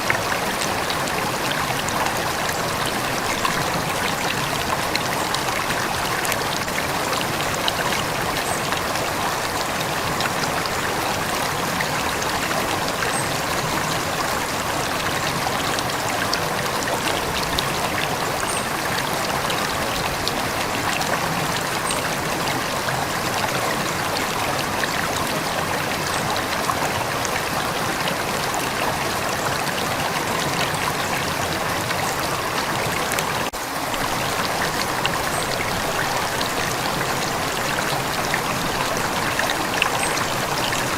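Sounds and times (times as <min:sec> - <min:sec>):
river water rushing: 0:00.0 - 0:40.9
water trickling and splashing: 0:00.0 - 0:40.9.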